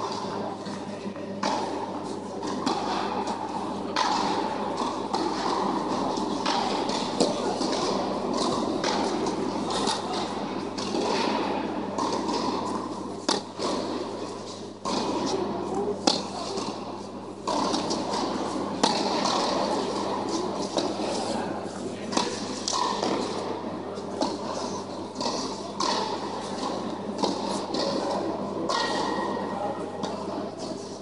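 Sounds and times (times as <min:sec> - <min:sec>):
steady low hum: 0:00.0 - 0:31.0
tennis balls struck by rackets: 0:00.0 - 0:31.0.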